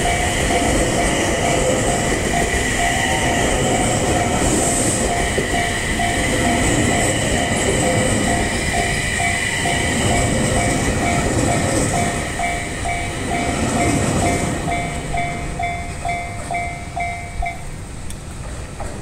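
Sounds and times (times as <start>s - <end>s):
level crossing bell ringing: 0.0s - 7.6s, 8.2s - 17.8s
passing electric train rumble: 0.0s - 19.0s.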